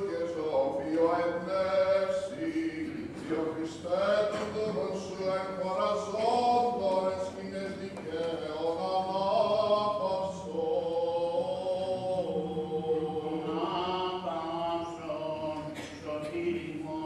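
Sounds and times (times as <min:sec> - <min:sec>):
chant in long held notes: 0:00.0 - 0:17.0.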